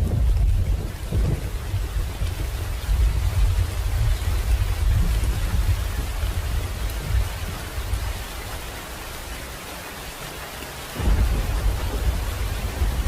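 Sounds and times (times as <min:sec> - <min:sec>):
thunder rumbling: 0:00.0 - 0:08.6, 0:11.0 - 0:13.0
heavy rain hissing: 0:00.0 - 0:13.0.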